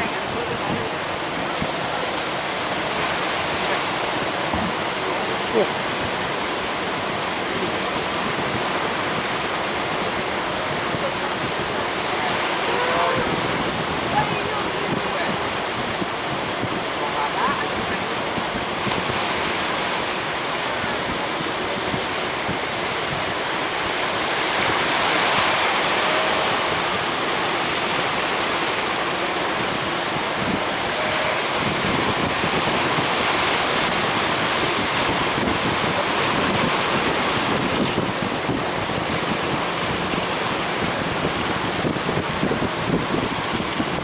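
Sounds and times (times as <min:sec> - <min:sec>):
ocean waves breaking: 0:00.0 - 0:44.0.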